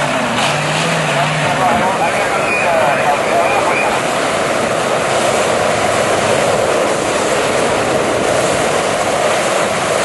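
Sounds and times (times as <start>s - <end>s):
propane burner roaring: 0.0s - 10.0s.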